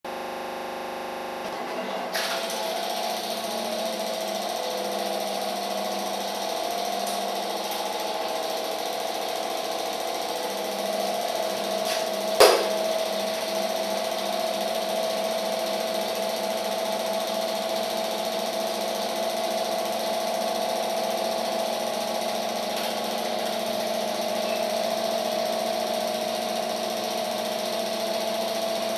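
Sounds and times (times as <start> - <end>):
film projector whirring: 1.2 - 28.9.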